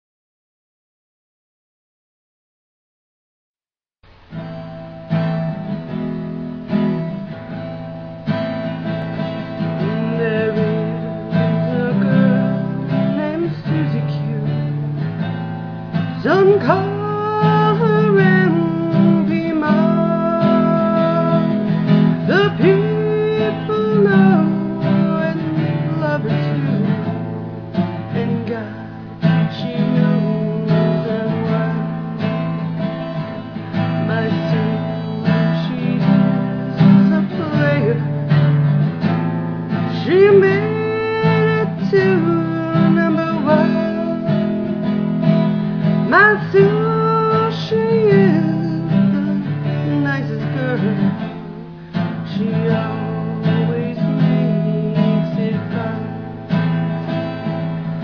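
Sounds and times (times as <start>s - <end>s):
strummed acoustic guitar: 4.0s - 58.0s
person singing: 8.8s - 15.4s, 16.0s - 38.7s, 39.7s - 57.0s.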